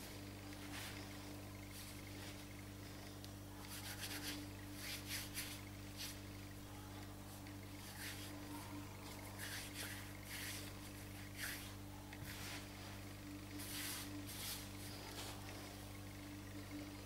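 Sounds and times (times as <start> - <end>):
hands kneading sticky dough: 0.0 - 15.6
steady low hum: 0.0 - 17.0.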